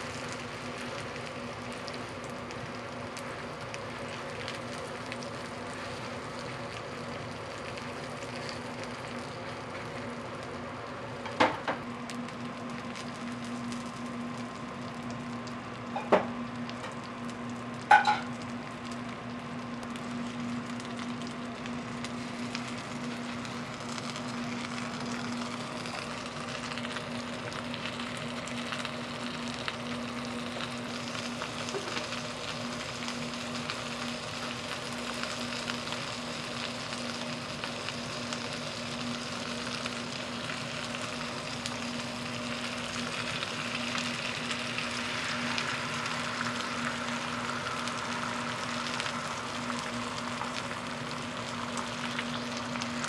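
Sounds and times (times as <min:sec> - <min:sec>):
pancakes sizzling in oil: 0:00.0 - 0:53.0
steady low hum: 0:00.0 - 0:53.0.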